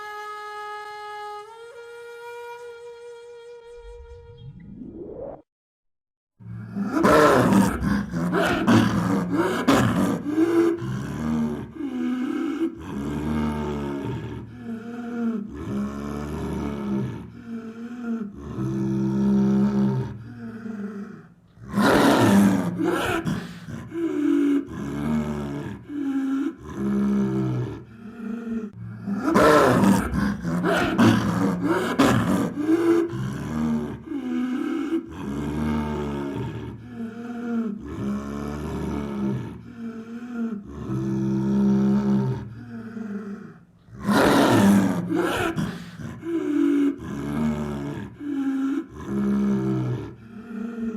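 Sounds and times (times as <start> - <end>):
hissing snarls: 6.5 - 50.9
leopard growling: 6.6 - 50.9.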